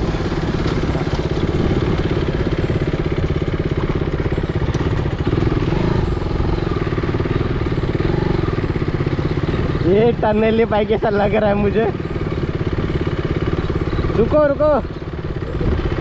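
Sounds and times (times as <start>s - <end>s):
motorcycle engine pulsing at low speed: 0.0s - 16.0s.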